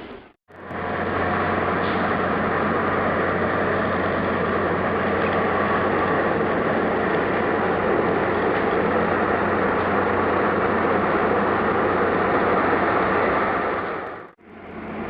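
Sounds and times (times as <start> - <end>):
vehicle running hum: 0.0 - 15.0.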